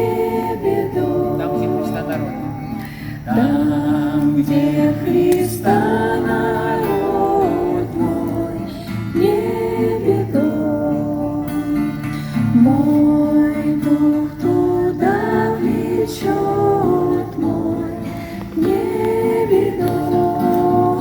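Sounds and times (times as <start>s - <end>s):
acoustic guitar strumming: 0.0s - 21.0s
group singing a slow hymn: 0.0s - 21.0s.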